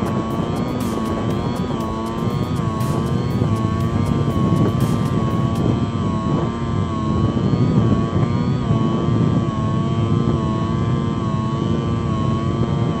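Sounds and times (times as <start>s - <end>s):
heavy wind rush: 0.0s - 10.4s
electric motor and propeller whining: 0.0s - 13.0s.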